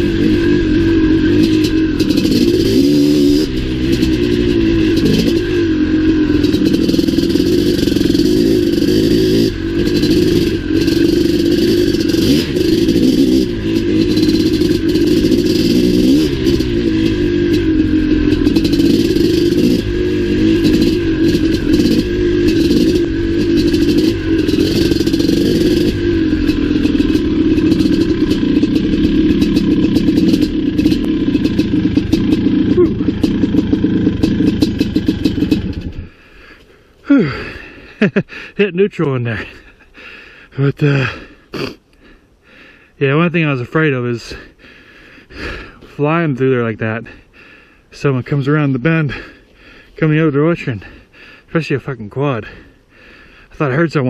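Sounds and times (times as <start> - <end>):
dirt bike engine revving: 0.0 - 42.2, 43.1 - 54.0.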